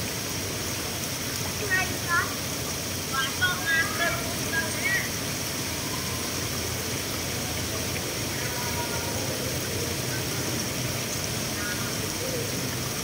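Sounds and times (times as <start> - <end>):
water pouring into a pond: 0.0 - 13.0.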